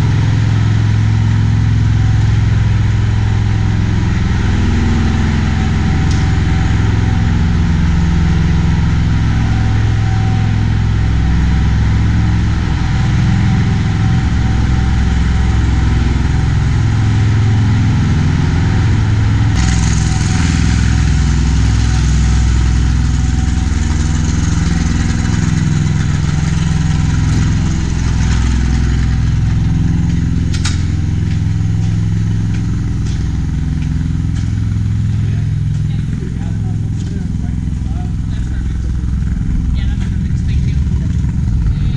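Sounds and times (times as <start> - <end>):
engine drone: 0.0 - 41.9.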